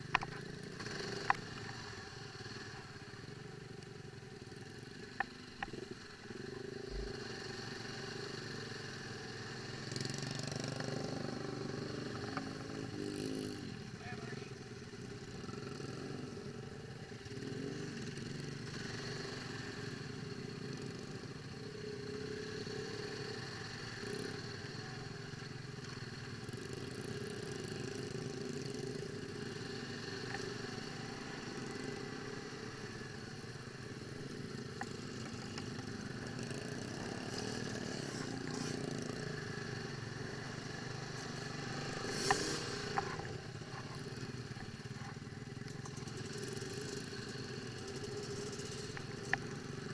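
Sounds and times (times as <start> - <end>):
atv engines running: 0.0 - 49.9.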